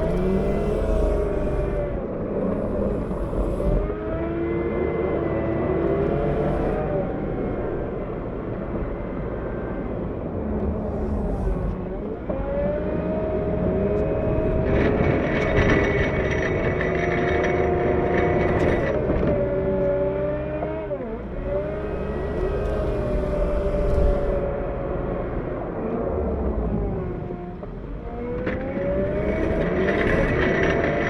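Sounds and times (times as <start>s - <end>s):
diesel engine revving: 0.0s - 31.0s
high whine with rattling: 0.0s - 31.0s.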